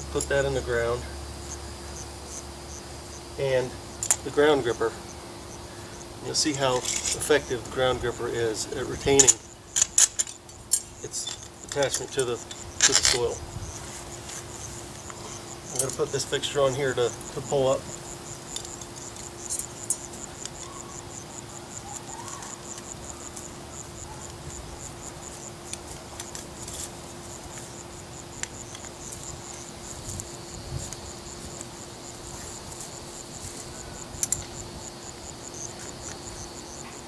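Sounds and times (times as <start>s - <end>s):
insects chirping: 0.0s - 37.0s
steady high buzz: 0.0s - 37.0s.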